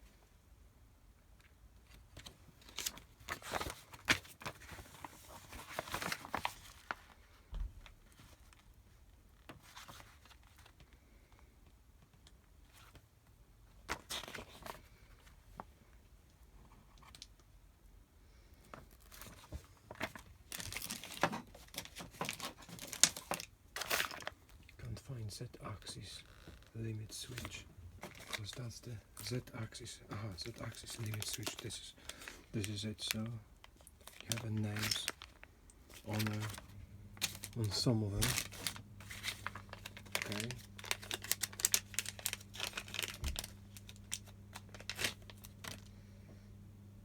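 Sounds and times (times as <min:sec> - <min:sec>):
packaging crinkling and rustling: 0:01.8 - 0:10.9, 0:13.8 - 0:15.7, 0:18.7 - 0:46.0.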